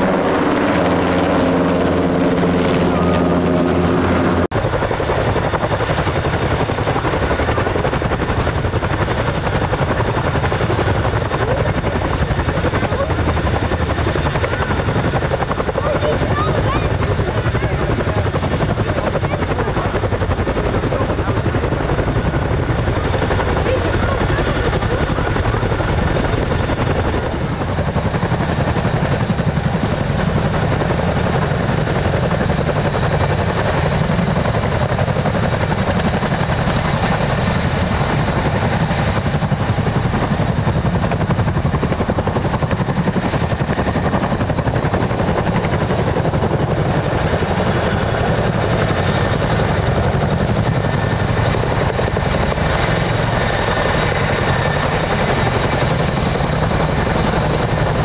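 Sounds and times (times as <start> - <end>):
helicopter rotor beat: 0.0 - 58.0.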